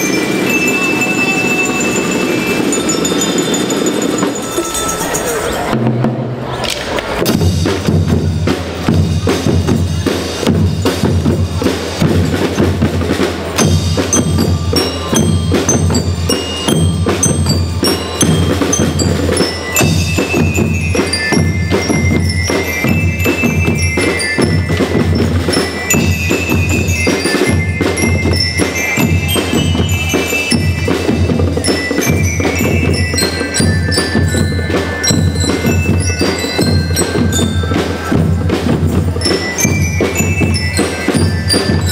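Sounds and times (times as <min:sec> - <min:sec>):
marching drums beat: 0:00.0 - 0:04.8, 0:07.2 - 0:41.9
bell lyre melody: 0:00.0 - 0:06.0, 0:08.9 - 0:41.9.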